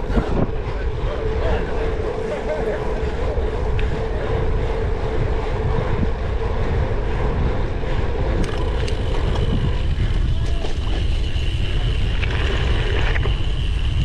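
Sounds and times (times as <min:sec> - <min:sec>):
bike riding rumble: 0:00.0 - 0:14.0
steady hum: 0:00.0 - 0:14.0
wind buffeting microphone: 0:00.0 - 0:14.0.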